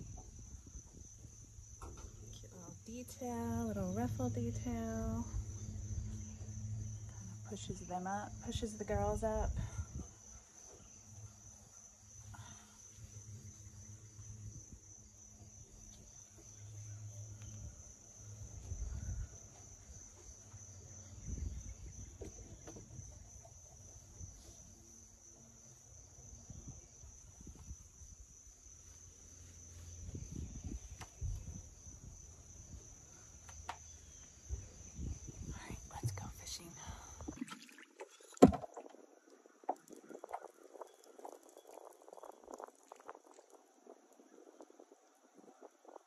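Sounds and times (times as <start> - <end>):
insect chorus trilling: 0.0 - 46.0.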